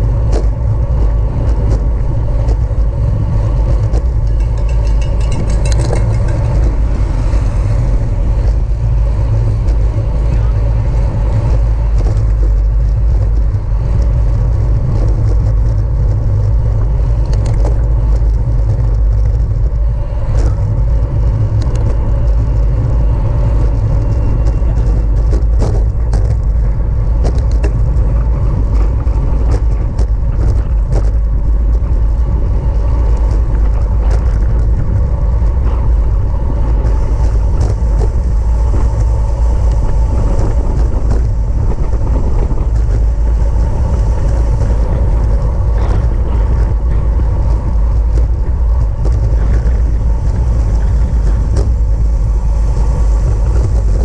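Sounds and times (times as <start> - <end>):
wind and road rumble: 0.0 - 54.0
bicycle clicks and ticks: 0.1 - 54.0.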